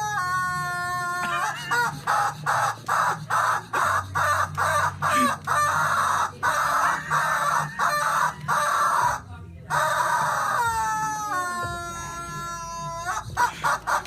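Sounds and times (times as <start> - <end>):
harsh raspy squawks: 0.0 - 14.0.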